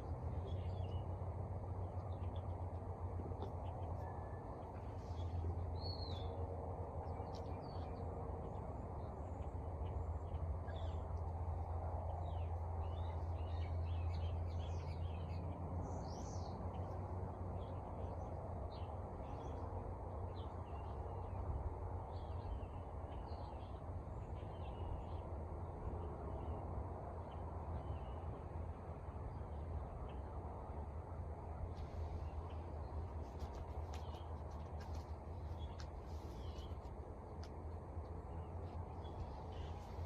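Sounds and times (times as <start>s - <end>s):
small birds chirping: 0.0s - 26.6s, 31.6s - 40.0s.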